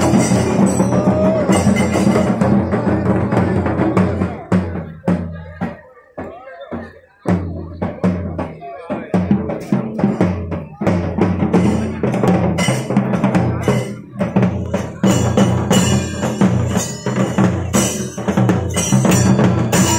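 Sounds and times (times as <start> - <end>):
fast ensemble drumming: 0.0 - 19.9.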